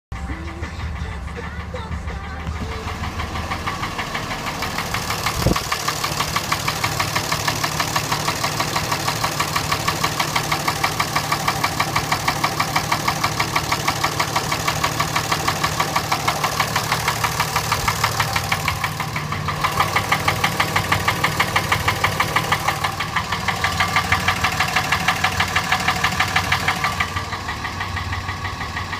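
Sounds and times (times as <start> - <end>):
diesel engine idling with knock: 0.1 - 28.9.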